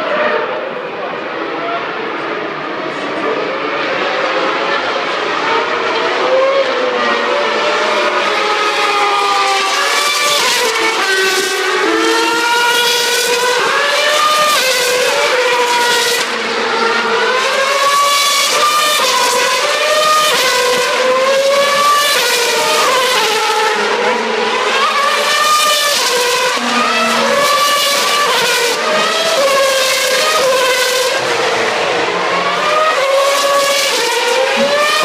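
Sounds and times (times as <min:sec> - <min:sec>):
racing car engines revving: 0:00.0 - 0:35.0.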